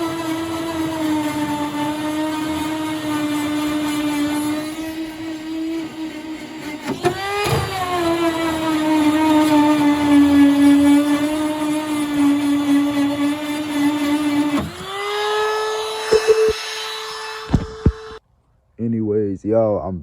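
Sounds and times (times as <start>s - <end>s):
rotary tool whining: 0.0s - 18.2s.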